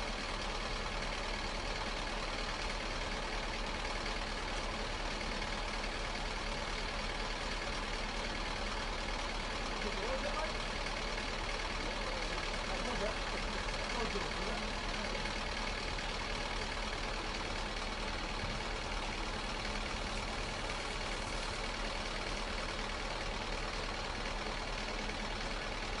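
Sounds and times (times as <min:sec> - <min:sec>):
large engine running steadily: 0:00.0 - 0:26.0.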